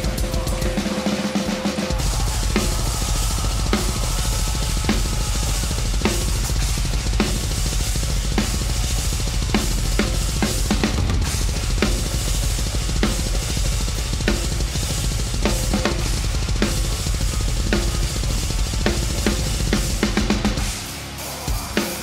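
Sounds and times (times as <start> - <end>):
double bass drum pattern: 1.9 - 20.6.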